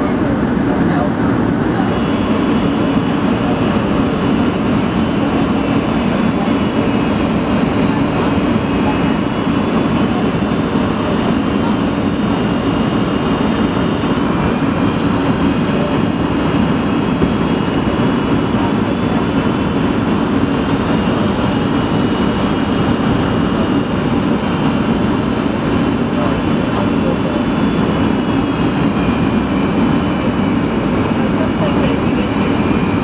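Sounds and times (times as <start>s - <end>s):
airplane cabin rumble: 0.0s - 33.0s.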